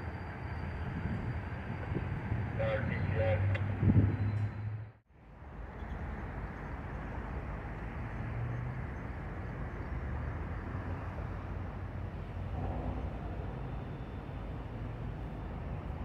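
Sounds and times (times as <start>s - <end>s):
distant freight train rumble: 0.0s - 16.0s.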